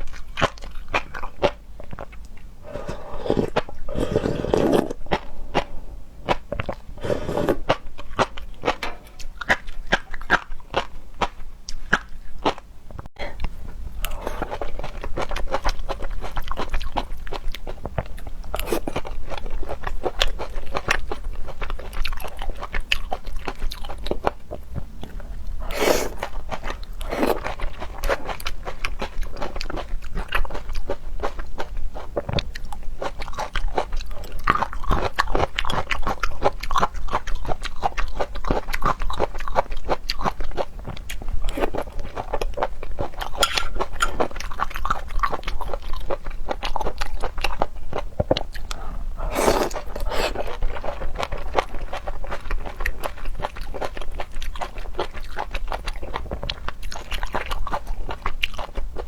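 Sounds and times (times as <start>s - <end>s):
chewing crunchy seafood: 0.0s - 59.0s.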